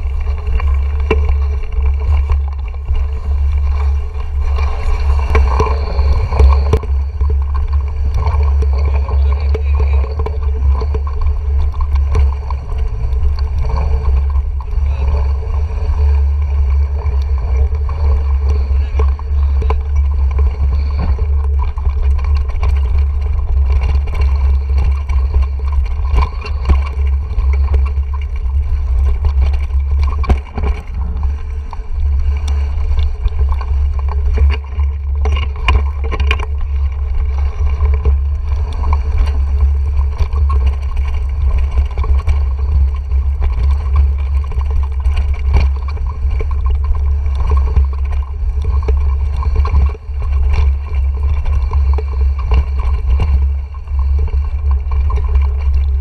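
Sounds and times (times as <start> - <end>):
bike knocks and rattles: 0.0 - 56.0
wind buffeting microphone: 0.0 - 56.0.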